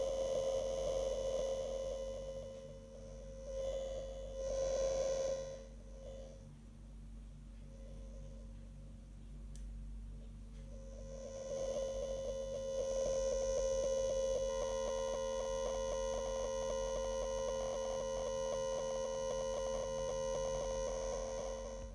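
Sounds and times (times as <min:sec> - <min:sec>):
gimbal motor whine: 0:00.0 - 0:06.5, 0:10.7 - 0:21.9.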